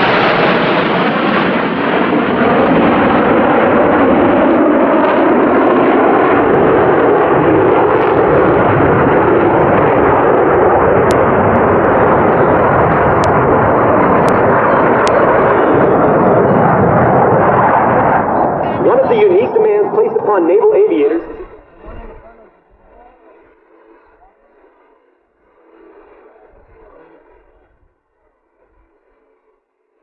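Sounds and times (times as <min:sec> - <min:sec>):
jet engines flying past: 0:00.0 - 0:30.0.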